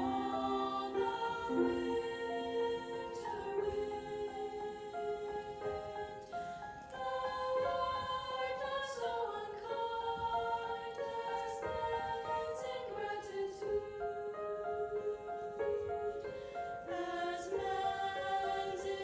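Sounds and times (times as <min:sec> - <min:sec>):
choir singing held notes: 0:00.0 - 0:19.0.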